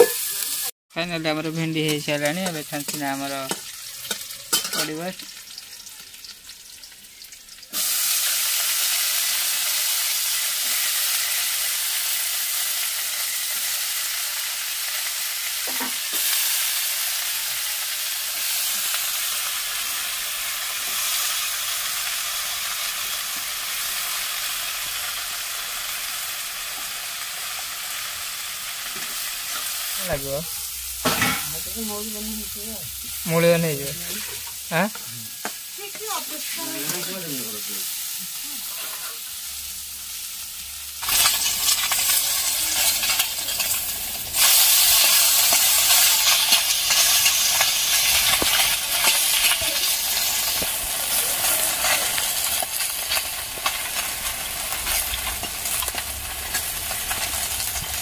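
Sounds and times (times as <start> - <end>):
okra sizzling in hot oil: 0.0 - 58.0.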